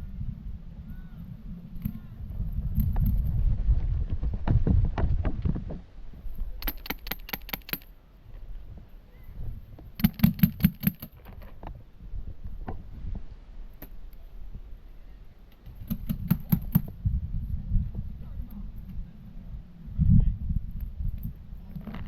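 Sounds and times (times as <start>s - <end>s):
low rumble on microphone: 0.0s - 6.6s, 8.2s - 10.0s, 11.2s - 22.0s.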